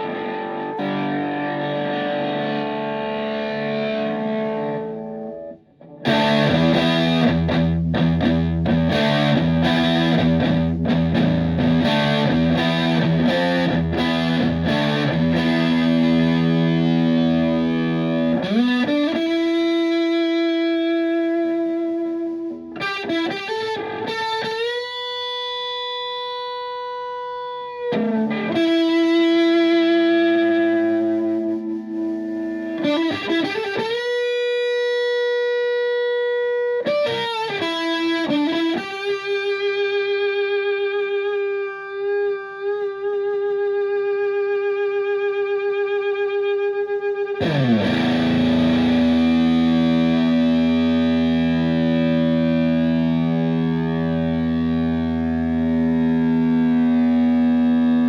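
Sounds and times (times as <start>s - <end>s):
distorted electric guitar: 0.0s - 58.0s.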